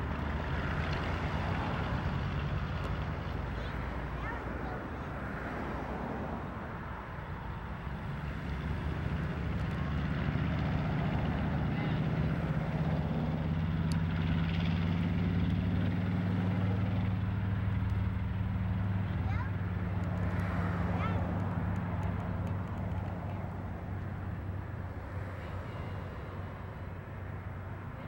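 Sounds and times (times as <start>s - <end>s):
piston aircraft engines droning: 0.0s - 28.0s.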